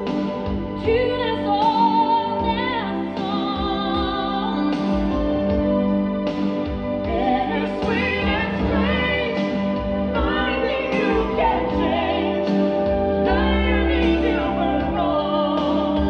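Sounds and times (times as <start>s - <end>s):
pop ballad over loudspeakers: 0.0s - 16.0s.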